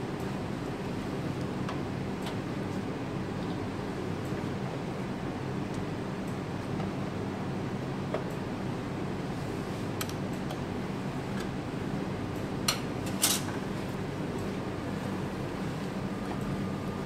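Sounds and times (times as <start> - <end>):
blower fan whirring: 0.0 - 17.0.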